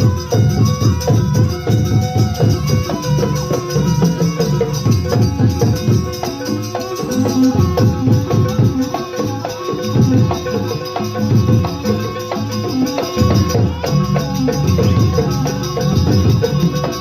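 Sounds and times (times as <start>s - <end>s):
gamelan percussion ensemble: 0.0s - 17.0s.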